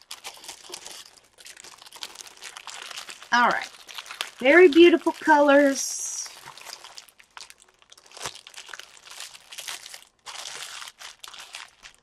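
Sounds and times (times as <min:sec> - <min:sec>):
plastic packet crinkling: 0:00.0 - 0:12.0.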